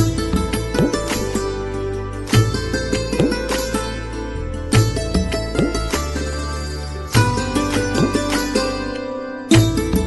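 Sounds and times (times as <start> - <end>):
plucked strings with bending notes: 0.0 - 10.0.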